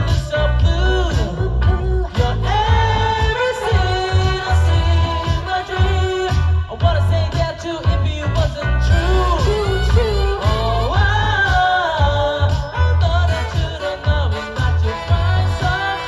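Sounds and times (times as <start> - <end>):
live band playing: 0.0 - 16.0
person singing lead vocal: 0.0 - 16.0.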